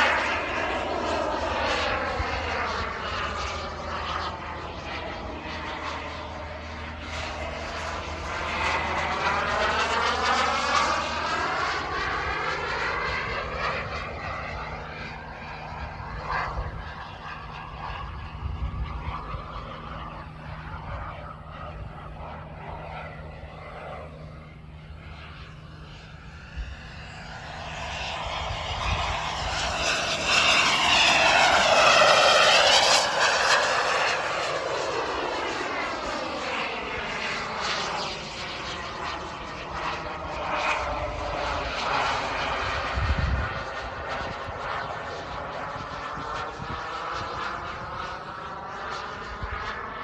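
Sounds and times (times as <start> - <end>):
model jet turbine passing: 0.0 - 50.0.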